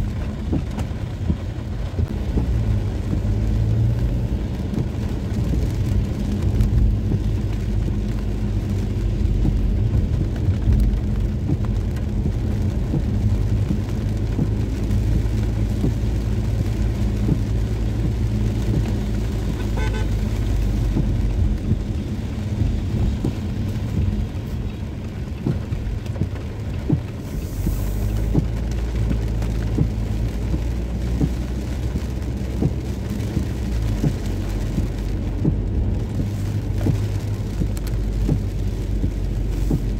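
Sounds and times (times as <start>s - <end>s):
car traffic rumble on wet streets: 0.0s - 39.9s
raindrops ticking: 0.0s - 39.9s.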